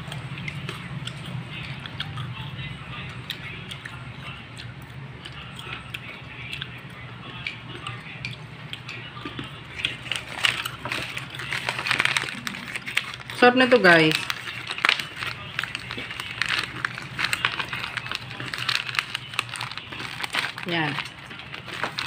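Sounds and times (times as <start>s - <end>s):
crunchy snacks being chewed: 0.0s - 22.0s.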